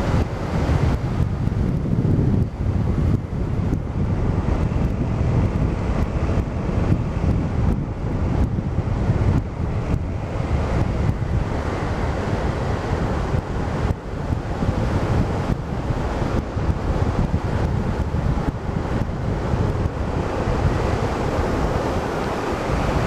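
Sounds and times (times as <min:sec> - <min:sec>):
low rumble of scooter ride: 0:00.0 - 0:23.0
wind buffeting microphone: 0:00.0 - 0:23.0.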